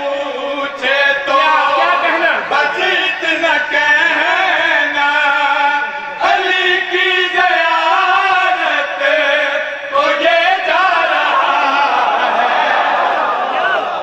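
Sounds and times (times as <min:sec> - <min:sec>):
man chanting through microphone: 0:00.0 - 0:12.4.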